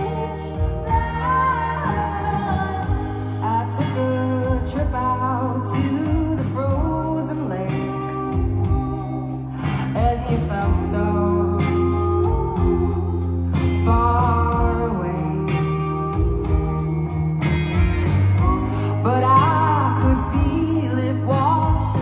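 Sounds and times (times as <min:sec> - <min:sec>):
live rock band: 0:00.0 - 0:22.0
women singing: 0:00.0 - 0:22.0.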